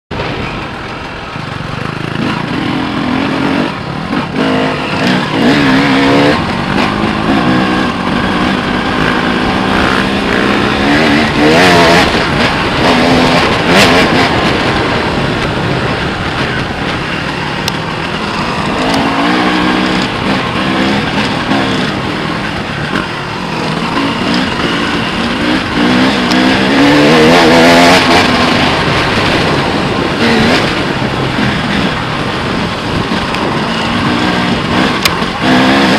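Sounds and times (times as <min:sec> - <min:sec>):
wind rush: 0:00.1 - 0:35.9
dirt bike engine revving: 0:00.2 - 0:35.9.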